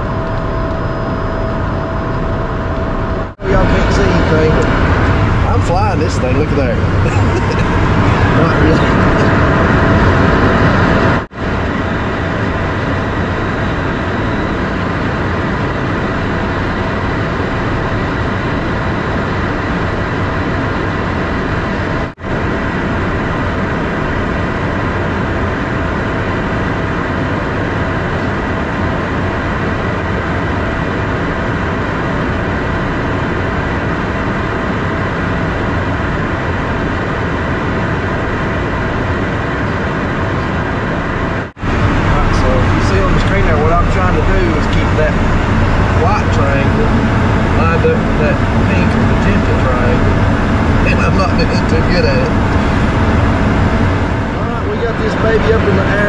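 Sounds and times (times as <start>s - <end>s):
aircraft airflow rushing: 0.0s - 56.0s
jet engines humming: 0.0s - 56.0s.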